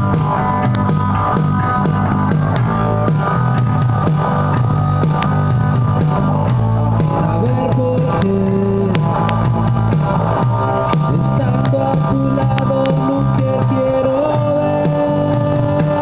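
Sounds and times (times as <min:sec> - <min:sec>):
repeating bass line: 0:00.0 - 0:16.0
rock band playing live: 0:00.0 - 0:16.0.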